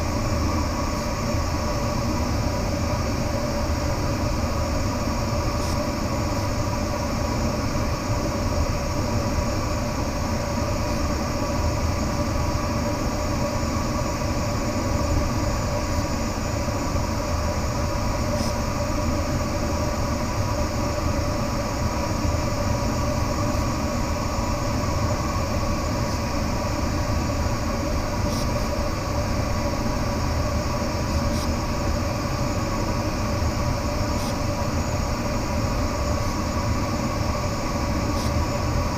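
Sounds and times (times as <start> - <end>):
faint steady whine: 0.0 - 38.9.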